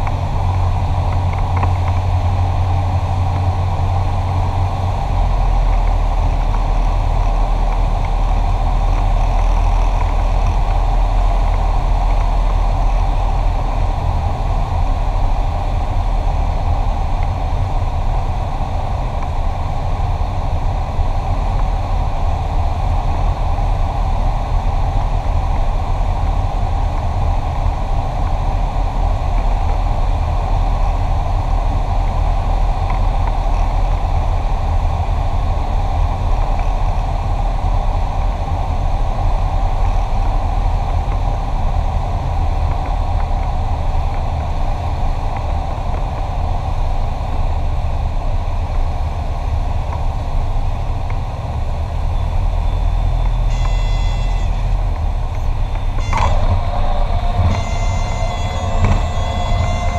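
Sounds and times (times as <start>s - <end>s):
airplane engine and propeller drone: 0.0s - 59.9s.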